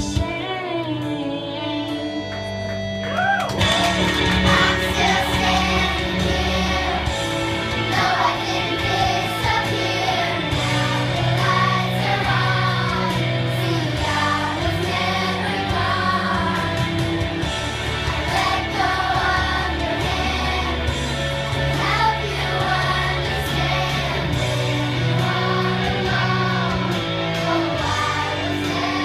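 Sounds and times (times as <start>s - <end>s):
instrumental accompaniment with bass: 0.0s - 29.0s
girls choir singing: 4.2s - 29.0s.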